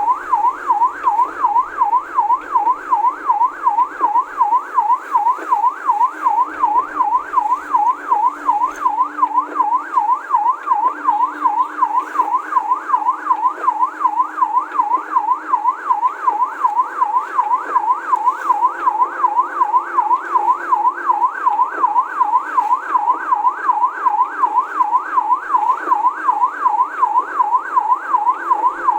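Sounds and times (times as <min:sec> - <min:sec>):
electronic siren yelping: 0:00.0 - 0:28.9.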